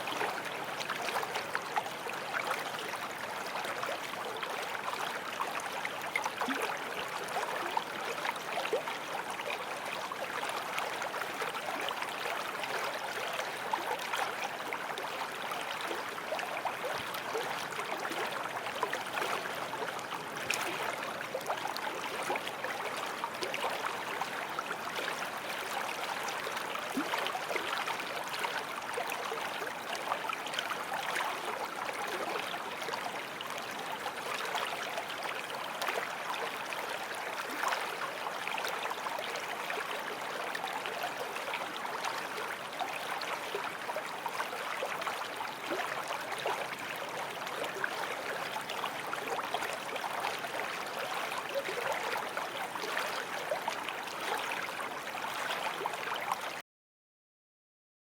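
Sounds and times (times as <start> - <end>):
stream flowing over stones: 0.0 - 56.6.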